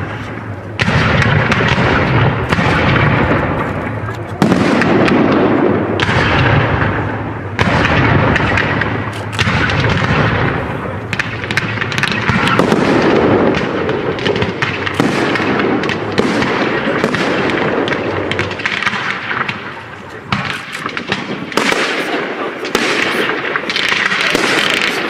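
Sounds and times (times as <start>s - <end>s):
fireworks booming: 0.0s - 25.0s
fireworks crackle: 0.0s - 25.0s.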